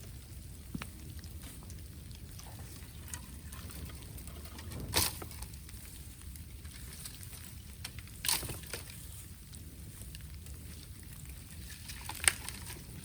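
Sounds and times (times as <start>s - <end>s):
bamboo fire crackling: 0.0s - 13.0s
bamboo popping: 0.6s - 13.0s.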